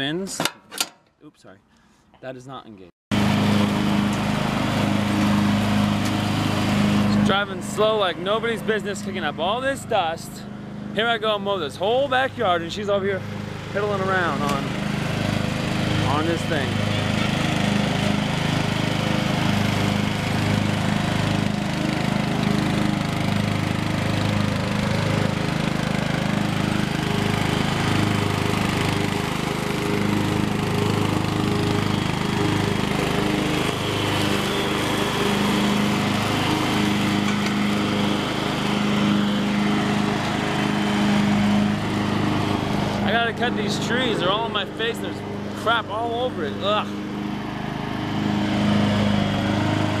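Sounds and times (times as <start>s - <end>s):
riding lawn mower engine: 3.1s - 50.0s.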